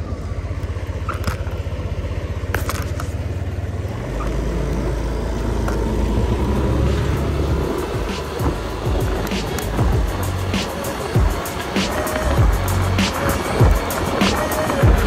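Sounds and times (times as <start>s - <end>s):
scooter engine accelerating: 0.0s - 15.0s.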